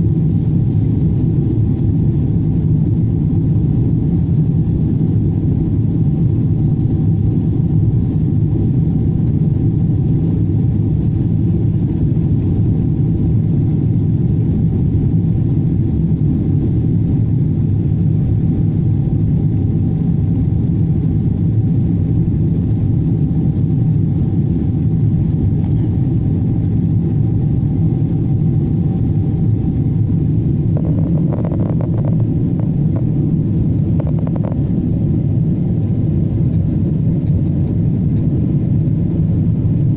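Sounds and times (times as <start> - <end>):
airplane cabin engine rumble: 0.0 - 39.9
faint steady hum: 0.0 - 39.9.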